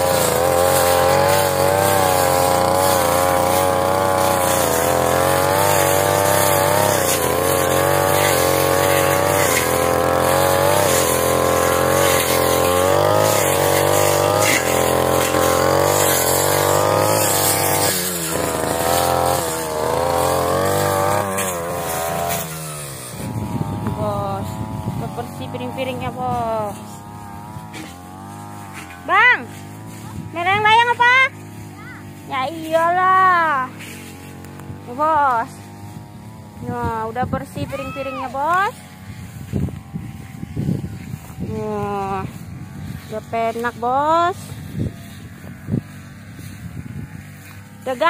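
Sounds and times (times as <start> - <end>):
brush cutter engine running: 0.0 - 48.0.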